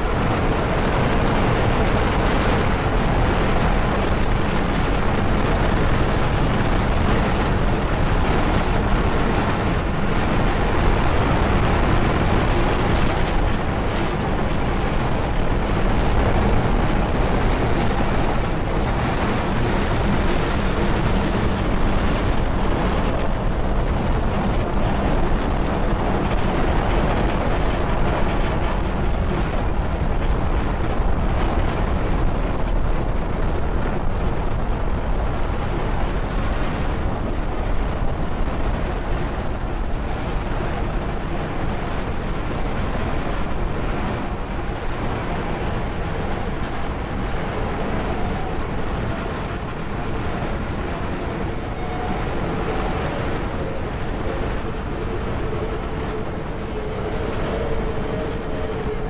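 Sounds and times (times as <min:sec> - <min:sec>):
dense wash of noise: 0:00.0 - 0:59.0.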